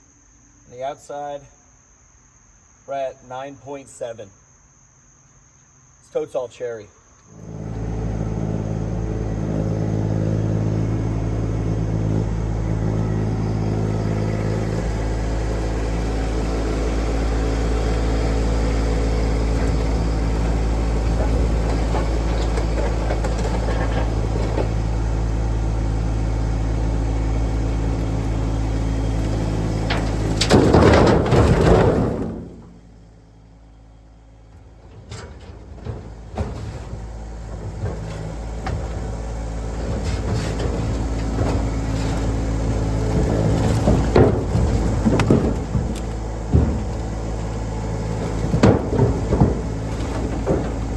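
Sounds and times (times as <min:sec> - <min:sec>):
vehicle engine running: 0:07.3 - 0:50.9.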